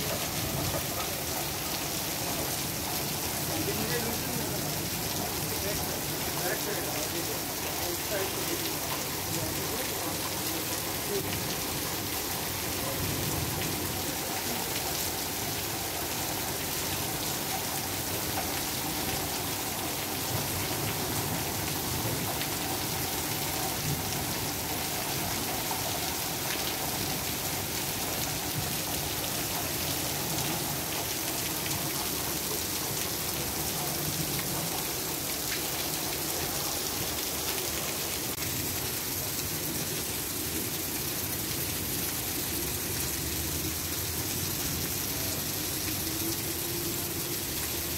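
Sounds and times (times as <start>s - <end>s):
heavy rain on pavement and cars: 0.0s - 47.9s.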